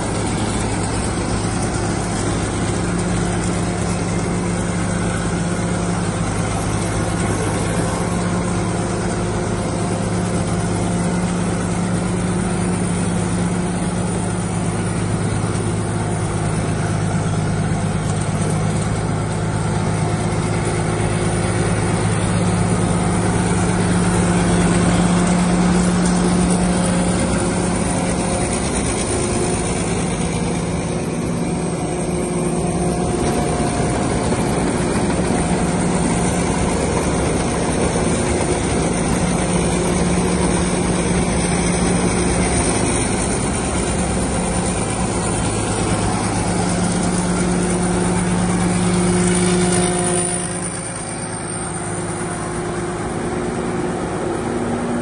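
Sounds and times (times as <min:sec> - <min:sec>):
combine harvester engine drone: 0:00.0 - 0:55.0
cutting and threshing machinery: 0:00.0 - 0:55.0.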